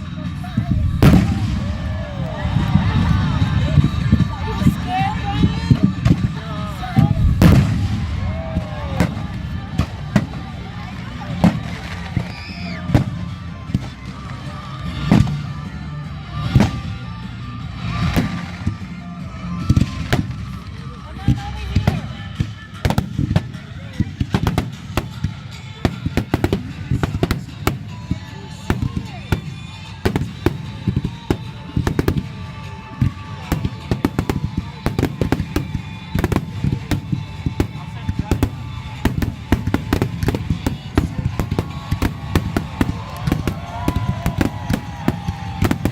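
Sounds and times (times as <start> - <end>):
fireworks bursting: 0.0 - 15.6, 17.8 - 45.9
background music: 0.0 - 45.9.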